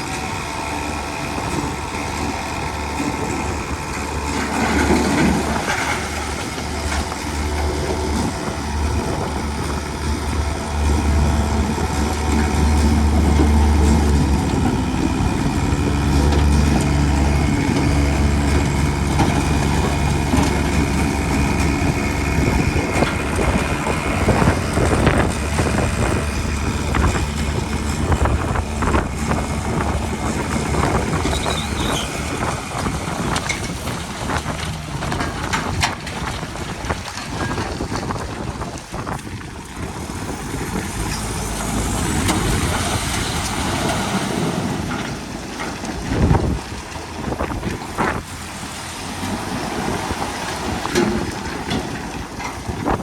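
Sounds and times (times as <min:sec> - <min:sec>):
heavy diesel machinery rumble: 0:00.0 - 0:53.0.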